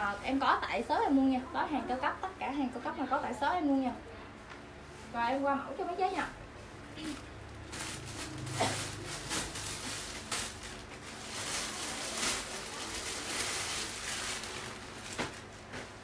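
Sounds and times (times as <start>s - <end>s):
plastic bags and clothes rustling: 0.0s - 4.0s, 4.6s - 16.0s.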